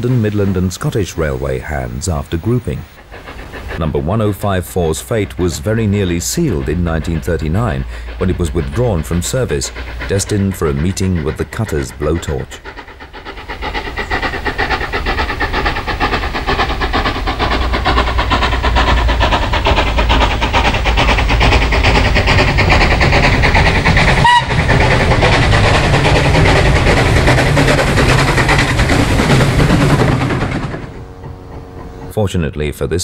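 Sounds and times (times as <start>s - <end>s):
steam locomotive exhaust and running: 0.0s - 33.0s.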